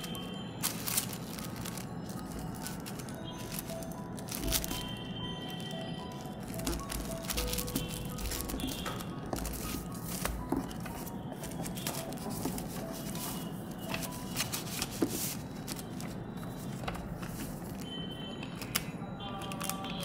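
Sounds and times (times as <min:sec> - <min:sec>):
paper rustling: 0:00.0 - 0:17.9, 0:18.6 - 0:20.0.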